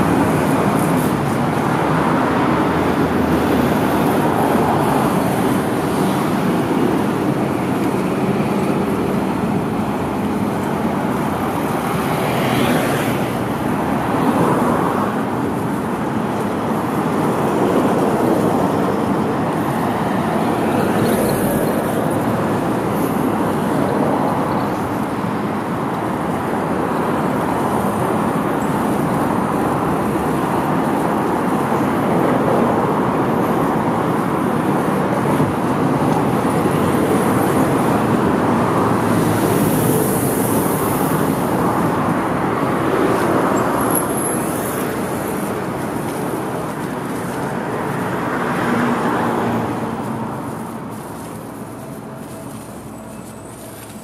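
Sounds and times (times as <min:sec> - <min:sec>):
cars driving along street: 0:00.0 - 0:54.0.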